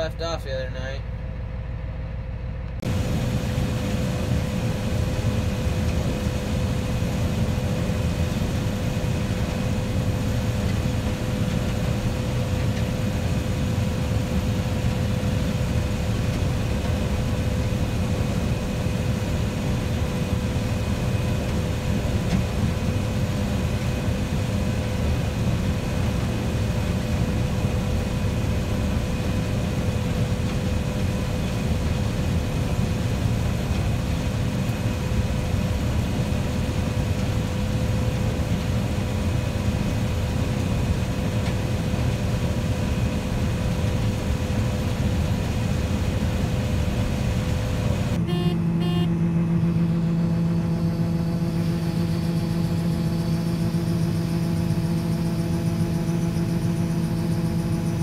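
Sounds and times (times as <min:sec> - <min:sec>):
constant whine: 0:00.0 - 0:58.0
engine and machinery rumble: 0:00.0 - 0:58.0.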